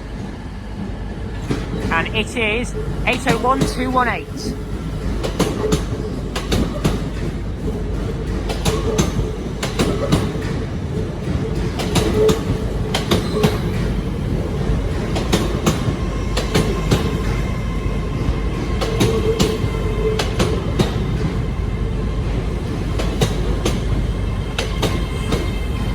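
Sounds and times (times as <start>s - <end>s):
train hum and rumble: 0.0s - 25.9s
train wheels clacking over rail joints: 4.9s - 25.7s.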